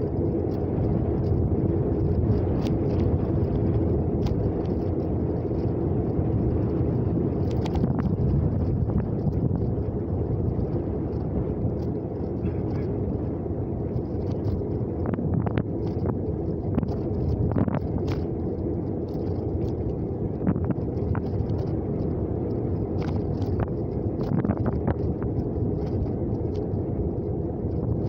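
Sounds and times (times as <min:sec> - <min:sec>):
engine rumble: 0:00.0 - 0:28.0
road noise: 0:00.0 - 0:28.0.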